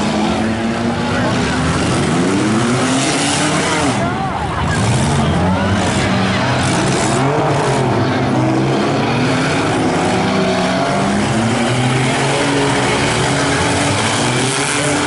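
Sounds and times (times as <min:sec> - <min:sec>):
small car engines revving: 0:00.0 - 0:15.0.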